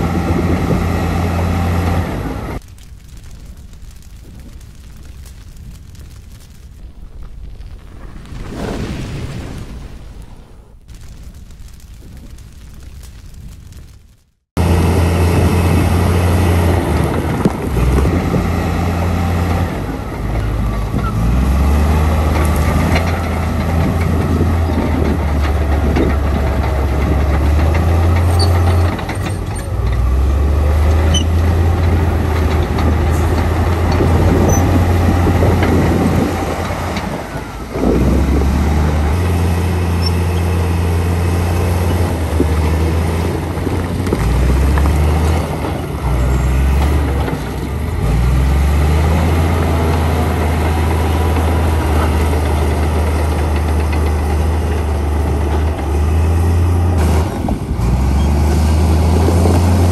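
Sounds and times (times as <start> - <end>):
diesel machinery engine drone: 0.0 - 2.6, 14.6 - 59.9.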